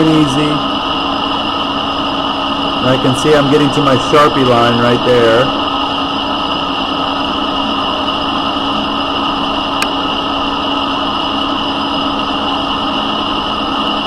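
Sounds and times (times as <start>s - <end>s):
metal lathe humming and whining: 0.0s - 14.0s.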